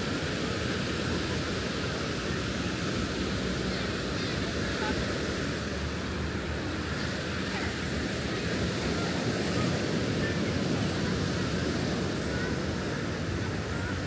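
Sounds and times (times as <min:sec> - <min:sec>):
surf washing onto beach: 0:00.0 - 0:14.0.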